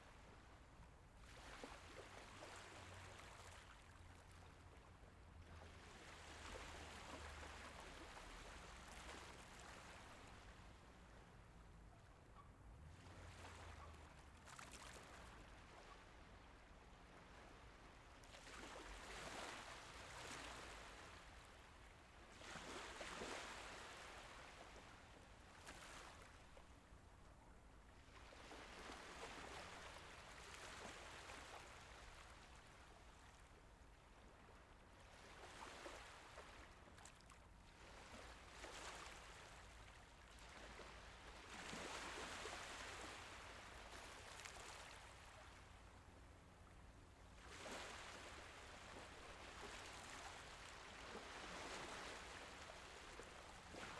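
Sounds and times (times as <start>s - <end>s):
gentle sea waves: 0.0s - 53.9s.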